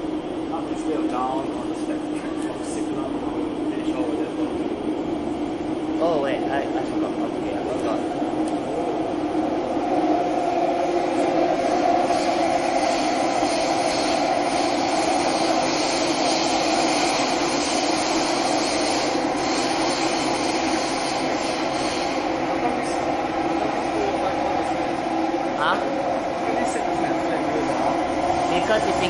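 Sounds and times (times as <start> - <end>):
metro train rumble and hum: 0.0 - 29.0.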